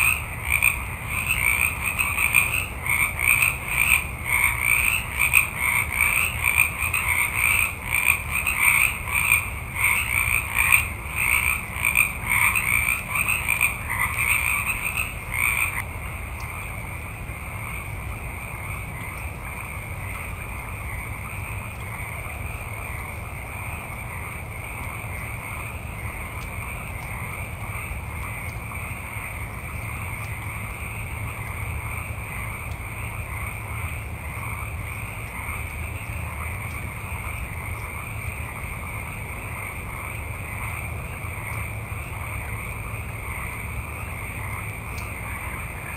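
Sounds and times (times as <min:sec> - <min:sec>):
frogs calling in chorus: 0:00.0 - 0:45.9.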